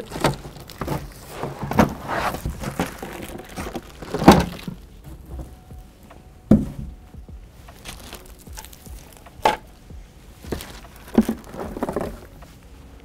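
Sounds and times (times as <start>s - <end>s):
plastic wrap and cardboard rustling: 0.0s - 5.7s, 6.6s - 13.0s.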